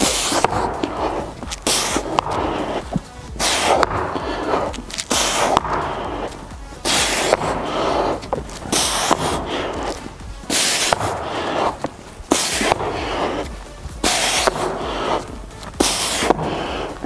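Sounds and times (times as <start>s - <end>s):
workout music: 0.0s - 17.0s.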